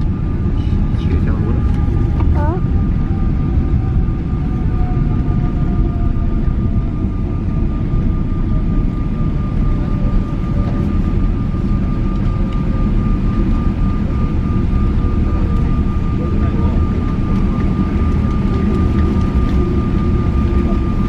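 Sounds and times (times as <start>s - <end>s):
heavy cabin rumble: 0.0s - 21.0s
steady jet engine whine: 0.0s - 21.0s.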